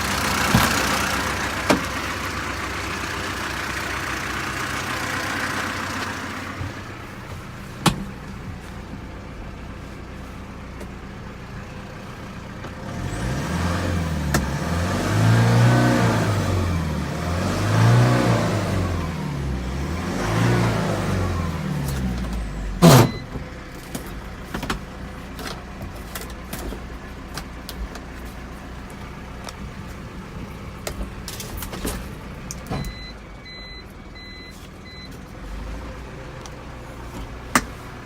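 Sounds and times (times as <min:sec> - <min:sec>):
truck engine idling and revving: 0:00.0 - 0:38.0.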